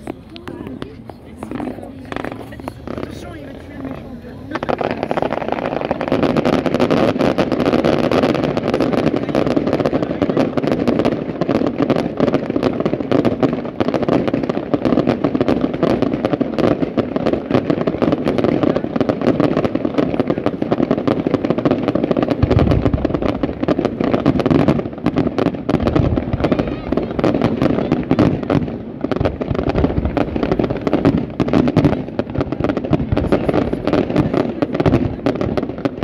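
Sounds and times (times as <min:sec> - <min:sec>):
firework boom: 0:00.0 - 0:36.0
fireworks crackling and hissing: 0:00.0 - 0:36.0.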